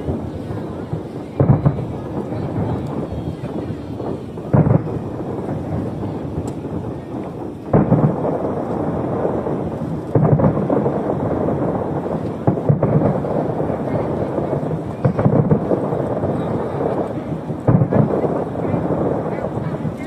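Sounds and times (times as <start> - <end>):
fireworks booming: 0.0 - 20.0
rolling rumble of fireworks bursts: 0.0 - 20.0.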